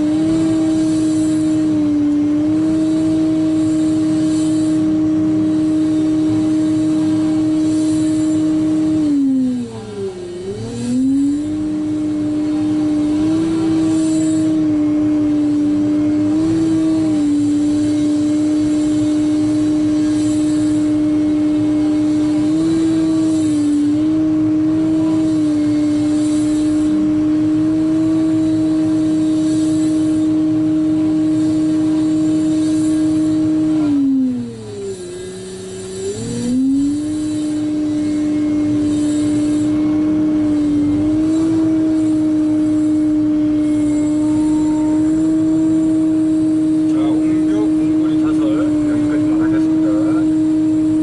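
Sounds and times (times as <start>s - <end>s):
excavator engine and hydraulics whining: 0.0s - 51.0s.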